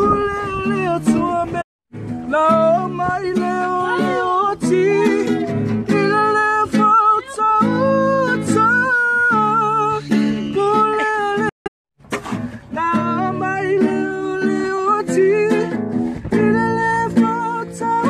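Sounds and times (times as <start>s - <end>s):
man singing: 0.0s - 1.6s, 2.2s - 11.6s, 12.6s - 18.0s
strummed acoustic guitar: 0.0s - 18.0s.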